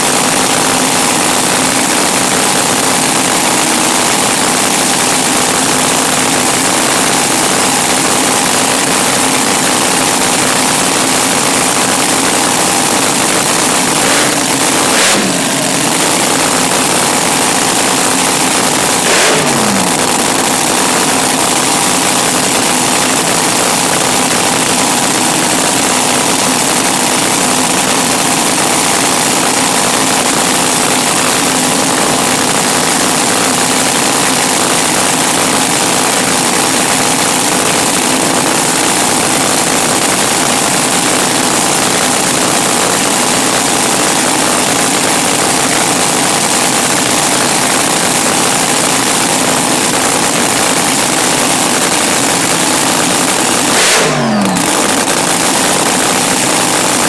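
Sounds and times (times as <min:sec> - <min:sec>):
racing car engines running: 0:00.0 - 0:57.0.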